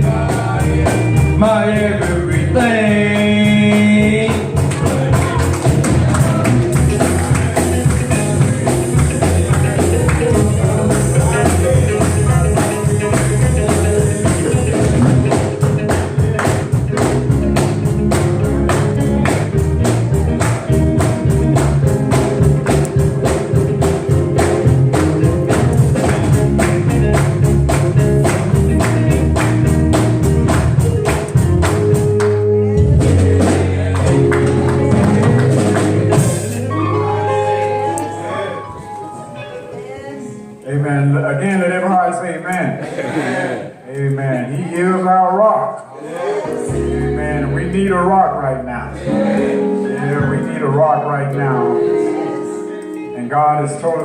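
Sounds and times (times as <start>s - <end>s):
upbeat instrumental gospel music: 0.0s - 54.0s.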